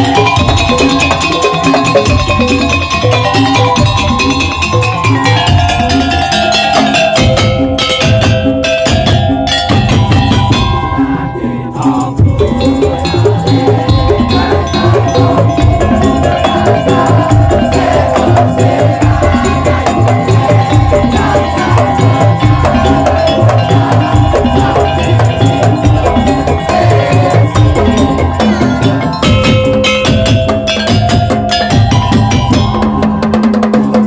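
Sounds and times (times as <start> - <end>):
drum rhythm: 0.0 - 34.0
held melody line: 0.0 - 34.0
wooden percussion: 0.0 - 34.0.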